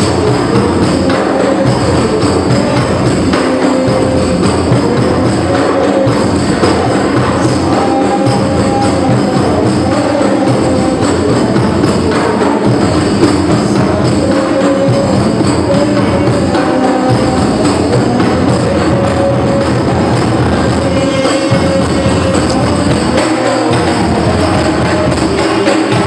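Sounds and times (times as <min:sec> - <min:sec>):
frame drums and bass drum: 0:00.0 - 0:26.0.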